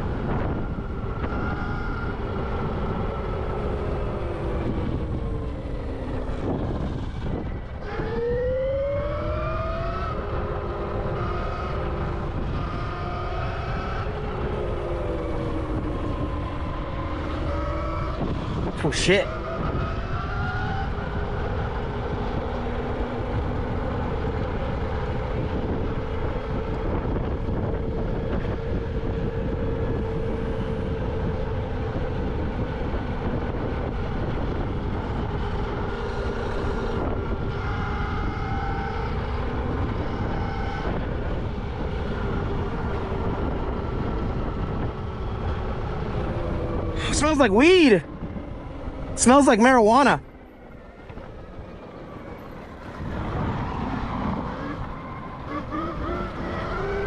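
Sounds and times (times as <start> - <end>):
wind on microphone: 0.0 - 18.8, 19.4 - 47.2.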